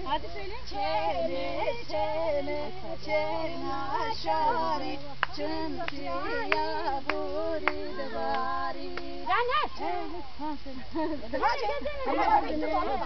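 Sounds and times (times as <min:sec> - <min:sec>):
women and girls singing together: 0:00.0 - 0:13.0.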